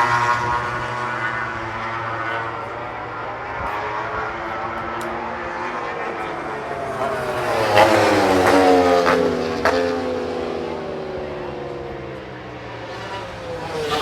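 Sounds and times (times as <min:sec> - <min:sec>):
motorcycle passing by: 0:00.0 - 0:14.0
racing motorcycle engines: 0:00.0 - 0:14.0.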